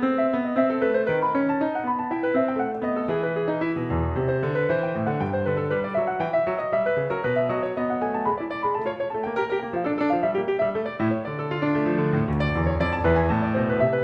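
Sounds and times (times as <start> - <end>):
calm piano music: 0.0 - 14.0.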